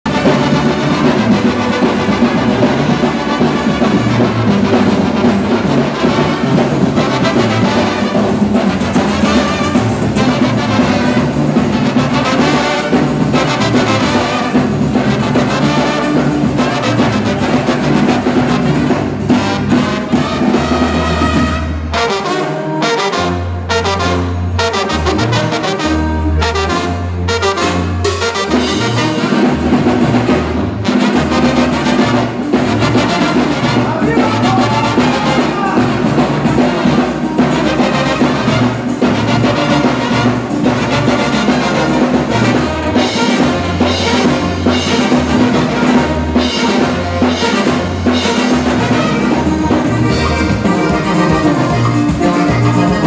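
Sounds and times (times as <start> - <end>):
brass band music: 0.0 - 53.0.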